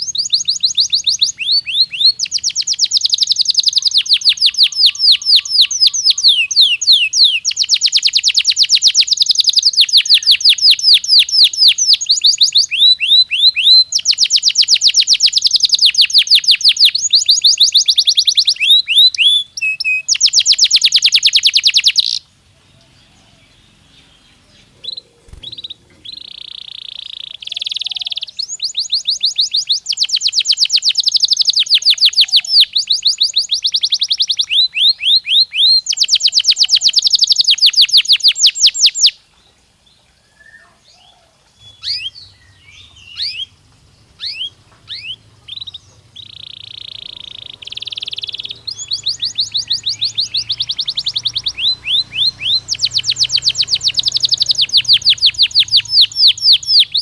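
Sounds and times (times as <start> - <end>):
canary chirps: 0.0 - 39.3, 40.4 - 57.0
canary singing trills: 0.0 - 57.0.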